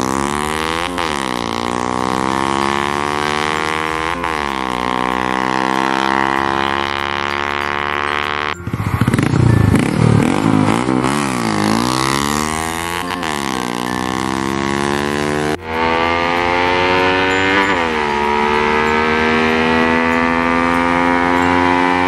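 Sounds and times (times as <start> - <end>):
motorcycle accelerating past: 0.0 - 22.0
steady drone: 0.0 - 22.0.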